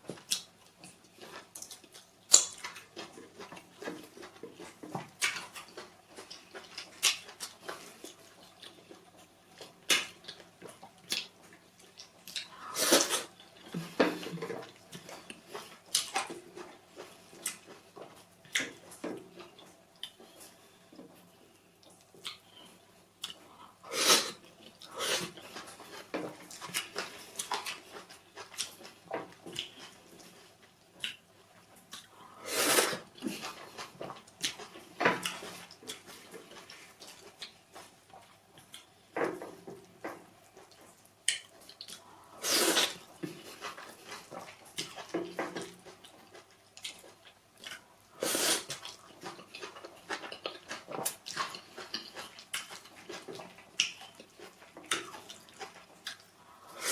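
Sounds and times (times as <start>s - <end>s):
wet chewing and lip smacking: 0.2s - 32.4s, 33.0s - 56.9s.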